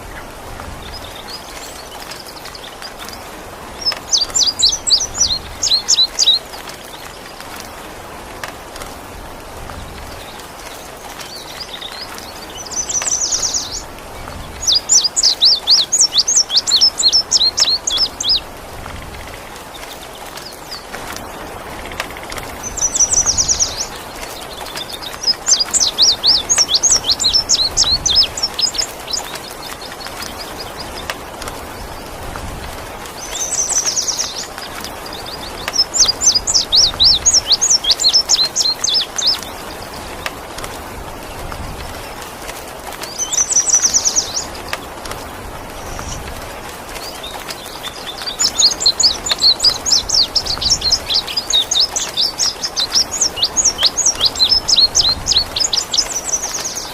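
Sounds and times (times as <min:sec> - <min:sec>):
bird singing: 0:00.0 - 0:07.6, 0:10.1 - 0:18.5, 0:19.7 - 0:32.2, 0:33.1 - 0:40.6, 0:43.0 - 0:56.9
steady rain-like hiss: 0:00.0 - 0:56.9.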